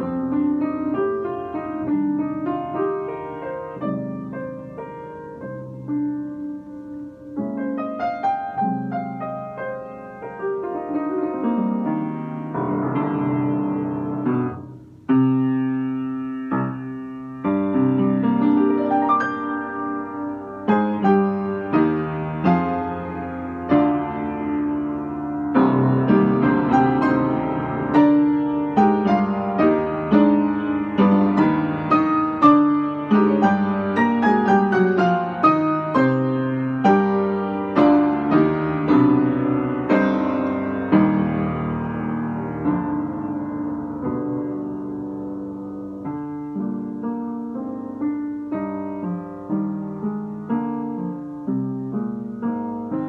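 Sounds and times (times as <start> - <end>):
upright piano improvisation: 0.0 - 53.0.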